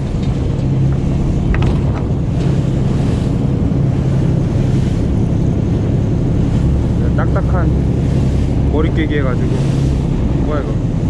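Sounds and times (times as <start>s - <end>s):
boat engine humming: 0.0s - 11.0s
sea noise: 0.0s - 11.0s
wind noise: 0.0s - 11.0s.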